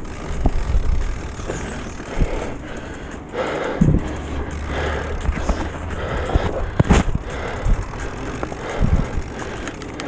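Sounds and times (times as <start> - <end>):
vehicle low hum: 0.0 - 10.0.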